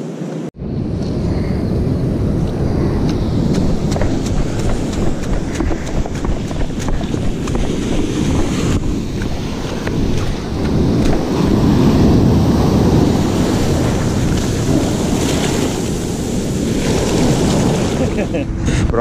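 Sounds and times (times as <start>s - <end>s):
wind rumble on microphone: 0.6s - 19.0s
ocean surf breaking on beach: 1.6s - 18.7s.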